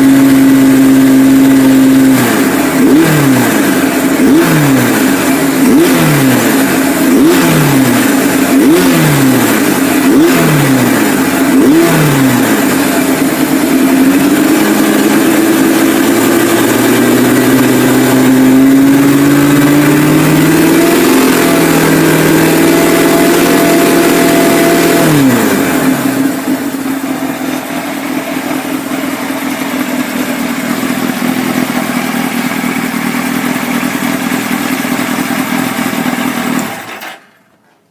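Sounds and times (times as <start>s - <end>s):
motorcycle engine revving: 0.0s - 37.5s.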